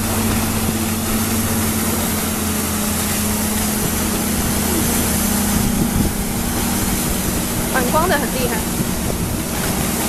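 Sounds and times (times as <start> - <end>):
boat engine humming: 0.0 - 10.0
rushing water noise: 0.0 - 10.0.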